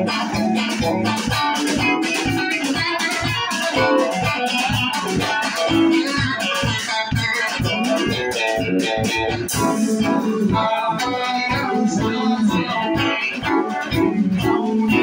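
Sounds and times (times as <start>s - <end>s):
drum kit beat: 0.0s - 15.0s
electric guitars: 0.0s - 15.0s.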